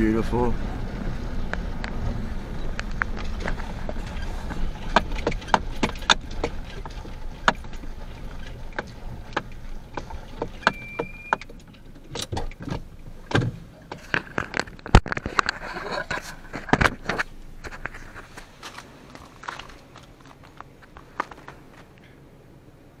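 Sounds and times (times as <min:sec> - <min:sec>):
low road rumble: 0:00.0 - 0:23.0
cab rattling clicks and knocks: 0:00.1 - 0:22.2.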